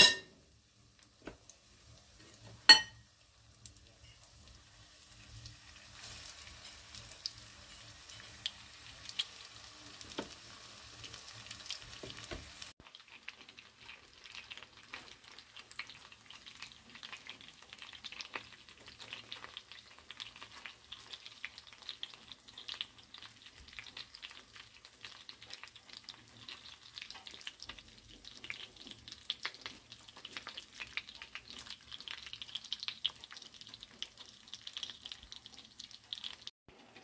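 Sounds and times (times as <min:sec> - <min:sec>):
chicken frying in hot oil: 0:00.0 - 0:37.0.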